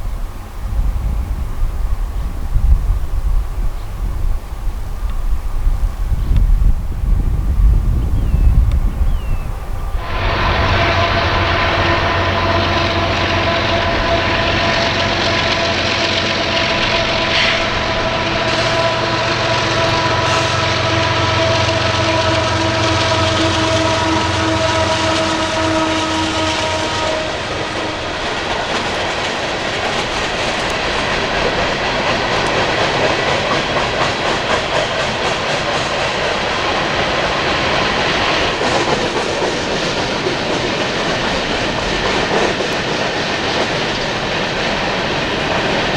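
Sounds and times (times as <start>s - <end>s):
diesel locomotive engines: 0.0s - 45.9s
train wheels clattering: 1.4s - 45.9s.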